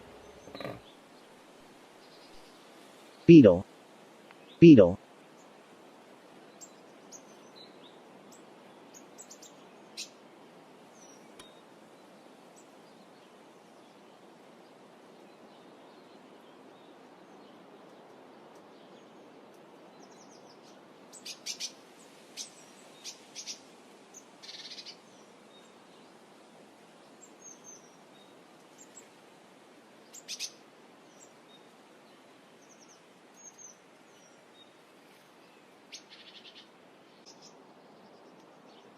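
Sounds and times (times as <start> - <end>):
low steady hiss: 0.0 - 38.9.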